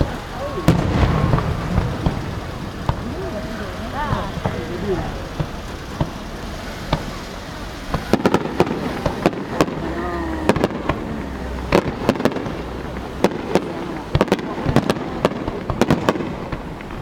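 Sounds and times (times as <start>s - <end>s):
fireworks cracking and popping: 0.0s - 17.0s.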